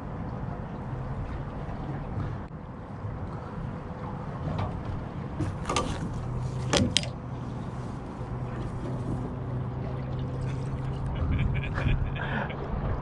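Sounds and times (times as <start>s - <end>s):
water noise: 0.0s - 13.0s
wind: 0.0s - 13.0s.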